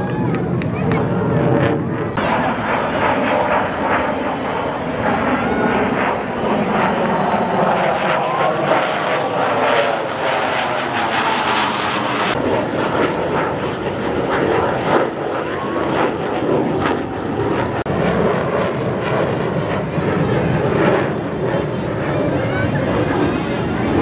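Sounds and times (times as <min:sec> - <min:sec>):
fighter jet roaring overhead: 0:00.0 - 0:24.0.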